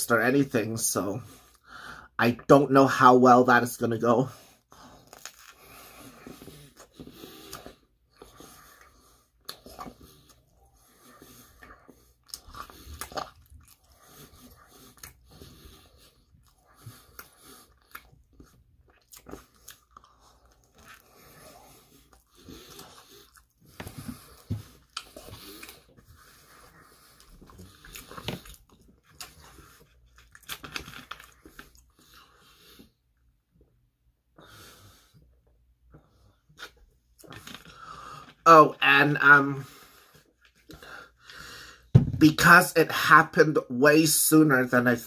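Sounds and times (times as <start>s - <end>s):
chewing pizza: 4.3s - 33.8s, 34.4s - 41.4s.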